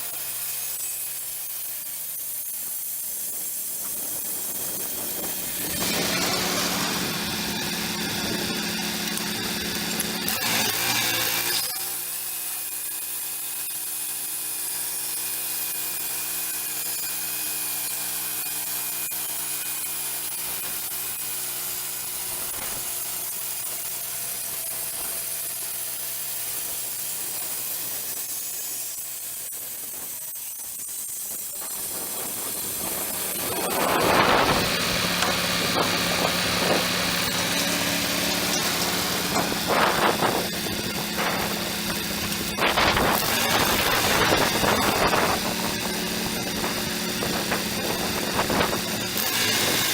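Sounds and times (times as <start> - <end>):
band blade cutting wood: 0.0 - 49.9
sawmill engine running: 0.0 - 49.9.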